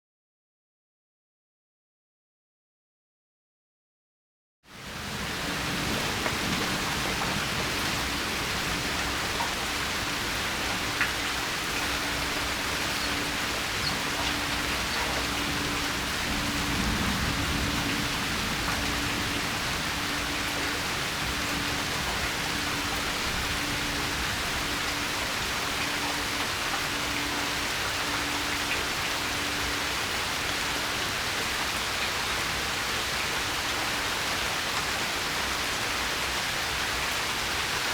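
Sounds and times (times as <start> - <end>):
steady rain hiss: 4.7 - 37.9.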